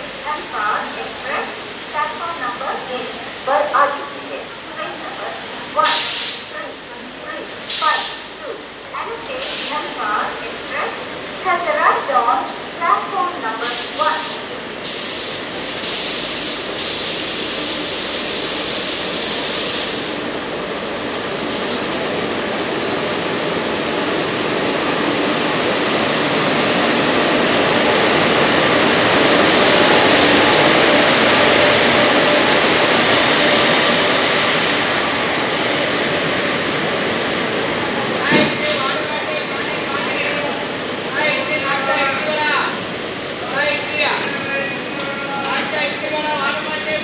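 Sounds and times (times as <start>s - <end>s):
train passing: 0.0s - 47.0s
train wheels on rails: 0.0s - 47.0s.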